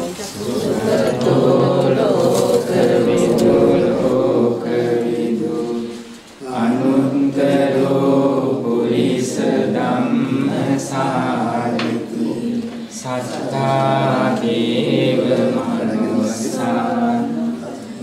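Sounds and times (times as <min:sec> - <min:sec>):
group chanting in unison: 0:00.4 - 0:18.0.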